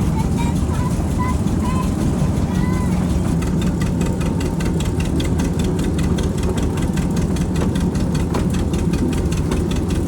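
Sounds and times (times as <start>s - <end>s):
engine idling with knocking: 0.0s - 10.0s.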